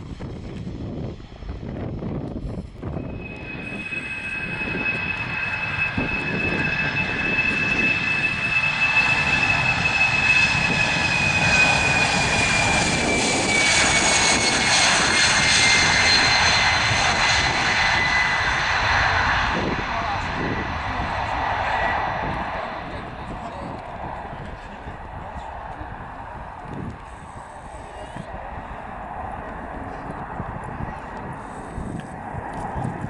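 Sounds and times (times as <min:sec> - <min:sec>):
jet engine roar with fan whine: 0:00.0 - 0:33.0.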